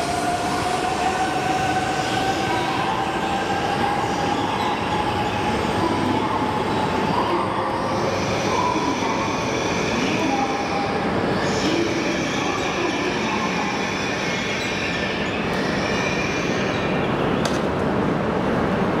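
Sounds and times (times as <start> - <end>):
train running noise: 0.0 - 19.0.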